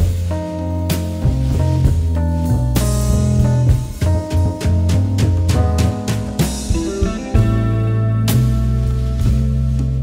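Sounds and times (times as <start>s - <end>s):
drums steady beat: 0.0s - 10.0s.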